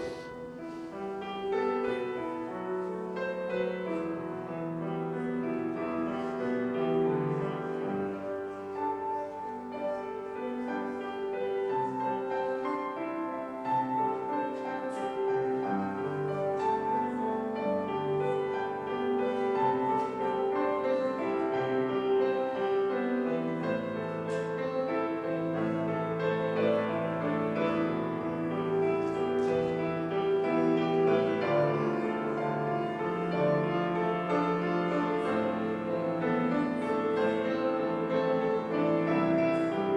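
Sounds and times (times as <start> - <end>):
slow solo keyboard prelude: 0.0 - 39.9.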